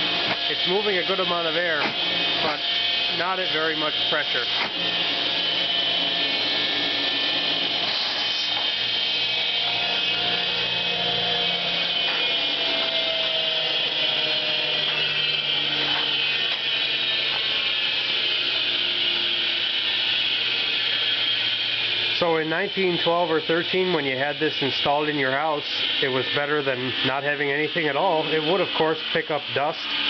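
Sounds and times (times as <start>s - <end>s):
vacuum motor whirring: 0.0s - 30.0s.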